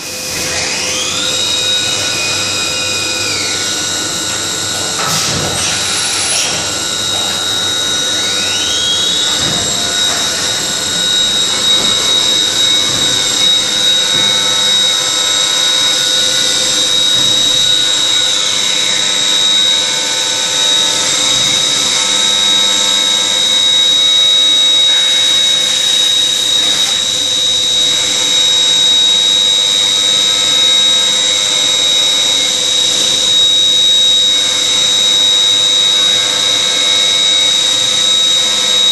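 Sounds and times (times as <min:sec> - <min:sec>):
hiss of cutting and coolant: 0:00.0 - 0:38.9
spindle and cutter whine: 0:00.0 - 0:38.9.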